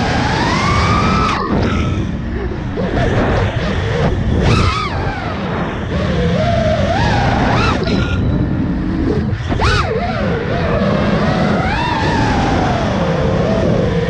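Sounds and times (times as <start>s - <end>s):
drone motors whining: 0.0s - 14.0s
low rush of wind: 0.0s - 14.0s.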